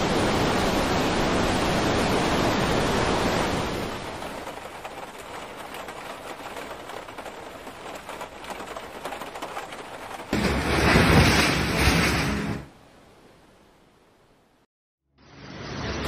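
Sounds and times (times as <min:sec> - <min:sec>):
floodwater rushing: 0:00.0 - 0:13.7.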